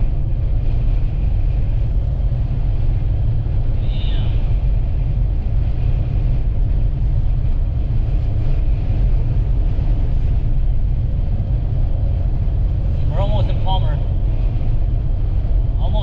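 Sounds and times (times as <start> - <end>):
vehicle road and wind rumble: 0.0 - 16.0.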